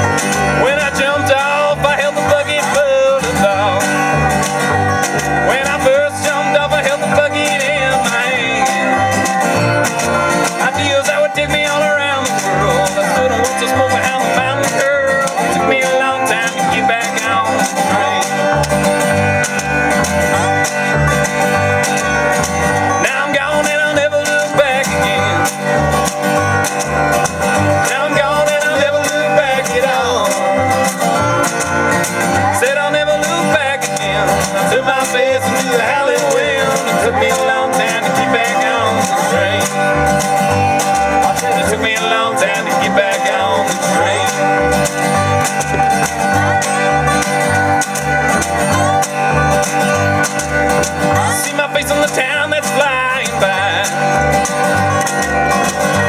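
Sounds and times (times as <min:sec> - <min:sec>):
bass beat: 0:00.0 - 0:56.0
bluegrass band music: 0:00.0 - 0:56.0.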